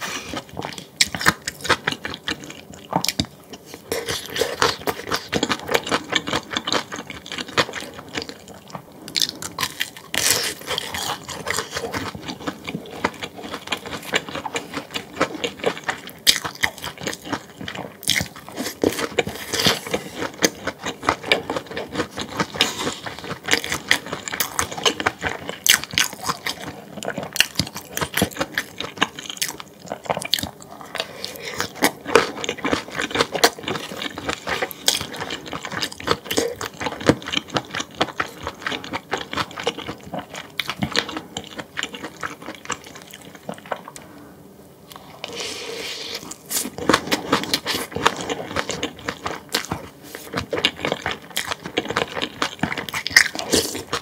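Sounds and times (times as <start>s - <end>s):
chewing food with crunches: 0.0s - 44.1s, 44.9s - 54.0s.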